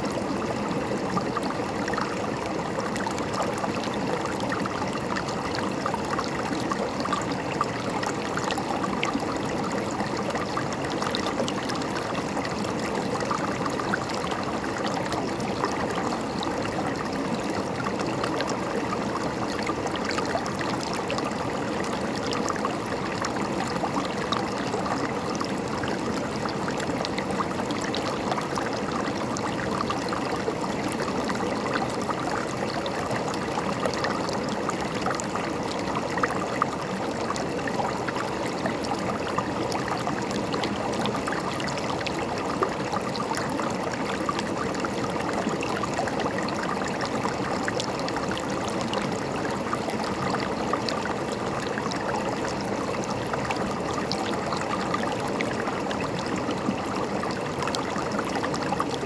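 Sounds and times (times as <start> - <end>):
river water over rocks: 0.0 - 59.0.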